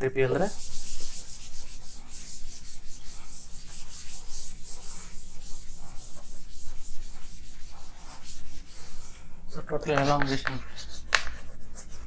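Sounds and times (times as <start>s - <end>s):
duster wiping chalkboard: 0.2s - 12.0s.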